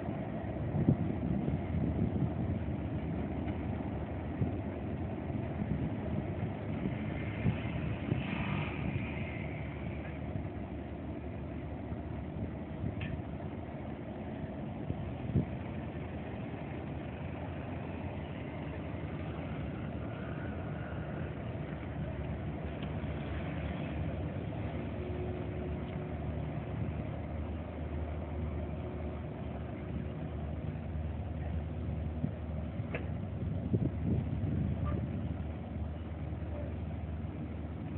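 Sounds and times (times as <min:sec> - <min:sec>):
boat engines rumbling: 0:00.0 - 0:37.9.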